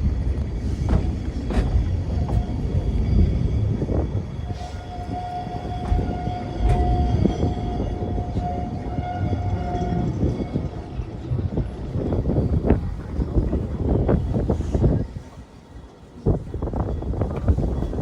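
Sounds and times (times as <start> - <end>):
tramcar rumbling on rails: 0.0 - 18.0.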